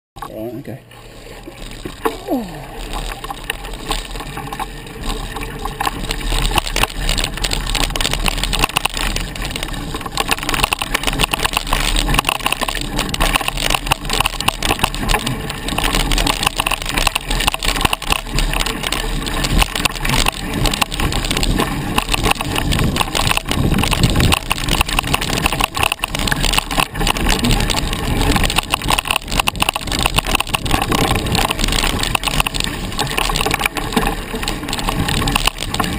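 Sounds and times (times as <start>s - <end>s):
bike tyres crunching over dirt: 0.3s - 35.9s
bike rattling over bumps: 0.9s - 35.9s
wind rumble on microphone: 3.1s - 35.9s.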